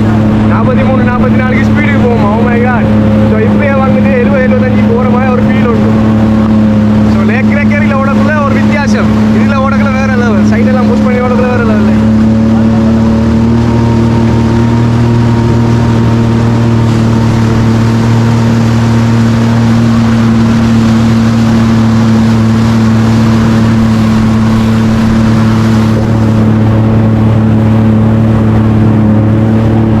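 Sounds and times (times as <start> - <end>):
jet ski engine humming: 0.0 - 30.0
rushing water: 0.0 - 30.0.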